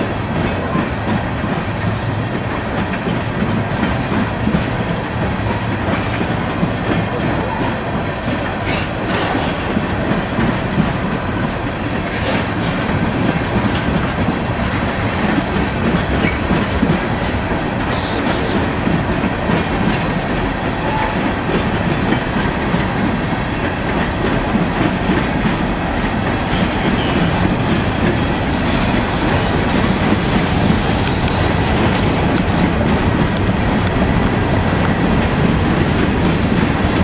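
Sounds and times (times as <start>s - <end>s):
steel wheels rolling on rails: 0.0s - 37.0s.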